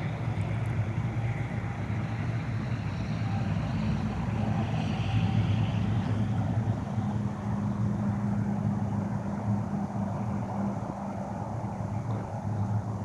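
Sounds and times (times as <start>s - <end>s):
turboprop engine drone: 0.0s - 13.0s.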